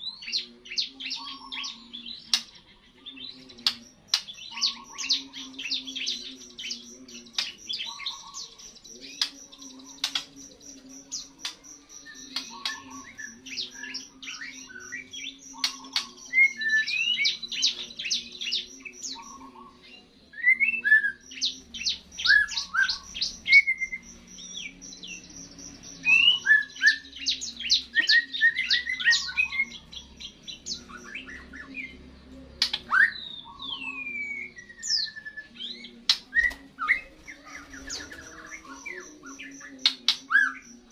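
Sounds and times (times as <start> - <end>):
bird singing varied chirps: 0.0 - 40.9.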